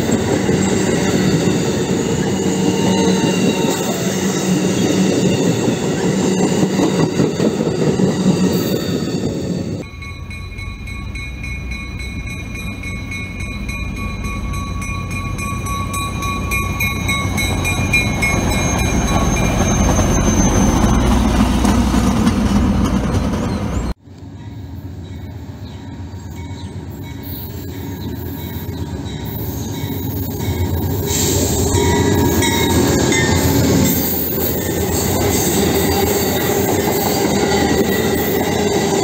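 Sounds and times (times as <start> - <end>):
distant train approaching: 0.0 - 39.0
rail car rumbling past: 0.0 - 39.0.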